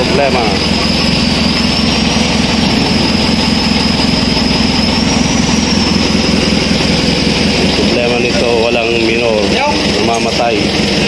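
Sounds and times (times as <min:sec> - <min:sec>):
high whine: 0:00.0 - 0:10.9
diesel engine idling: 0:00.0 - 0:11.0.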